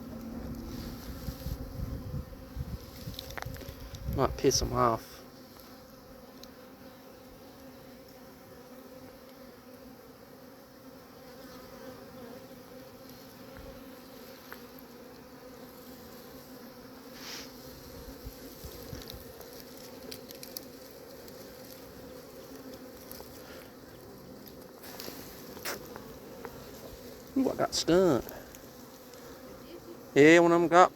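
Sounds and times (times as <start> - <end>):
bee swarm buzzing: 0.0 - 30.9.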